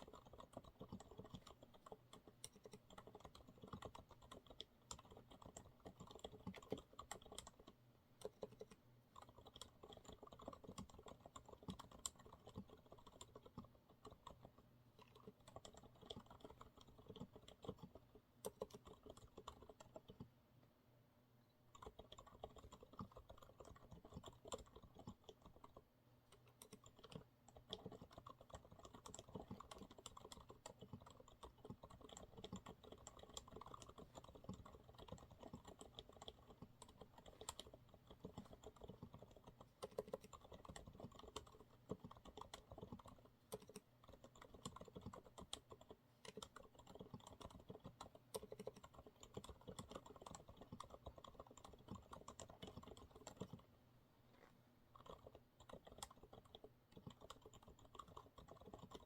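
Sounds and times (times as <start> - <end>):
mechanical keyboard typing: 0.0 - 20.3, 21.7 - 53.7, 54.9 - 59.0.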